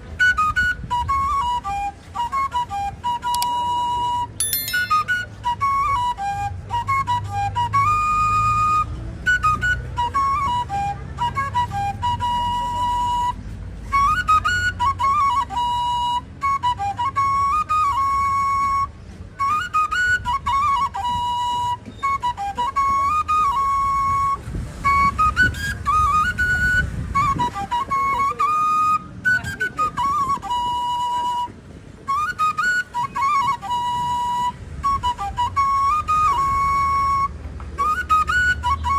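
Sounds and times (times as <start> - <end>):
solo flute melody: 0.0 - 38.9.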